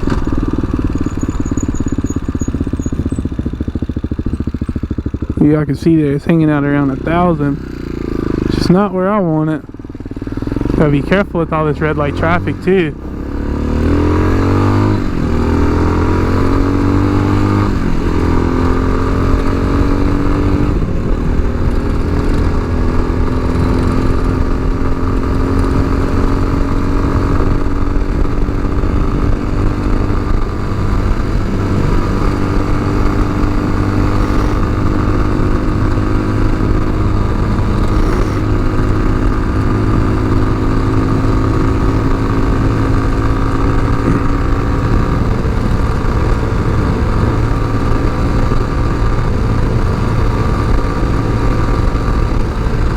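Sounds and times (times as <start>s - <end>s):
motorcycle engine pulling away: 0.0s - 8.9s, 9.7s - 52.9s.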